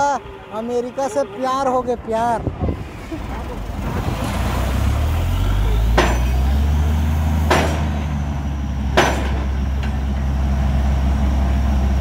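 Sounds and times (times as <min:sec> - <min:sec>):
drilling rig engine droning: 0:00.0 - 0:12.0.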